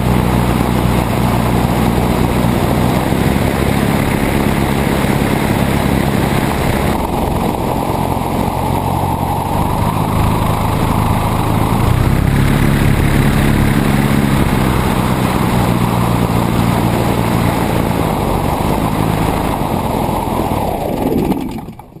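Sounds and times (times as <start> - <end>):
propeller plane engine running: 0.0 - 22.0
rushing air noise: 0.0 - 22.0.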